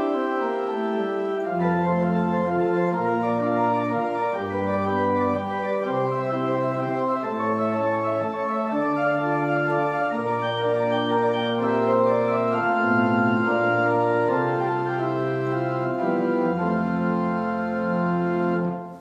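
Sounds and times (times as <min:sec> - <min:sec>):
organ playing sustained chords: 0:00.0 - 0:18.9.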